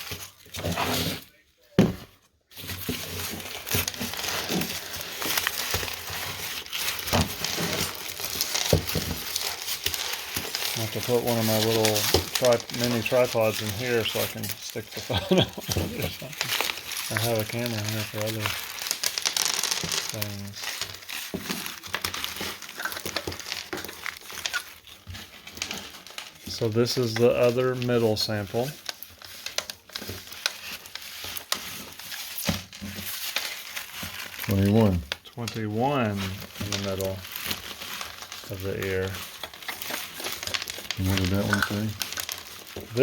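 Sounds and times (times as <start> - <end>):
crinkling rustle: 0.0 - 43.0
corn kernels shelled by hand: 1.8 - 43.0.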